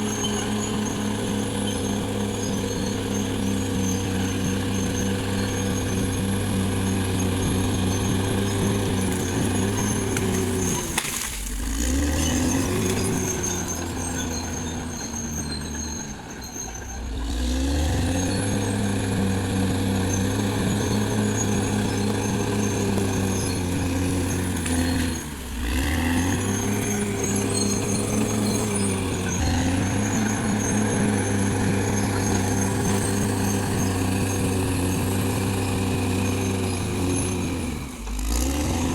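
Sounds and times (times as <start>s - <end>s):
bulldozer diesel engine working hard: 0.0s - 38.9s.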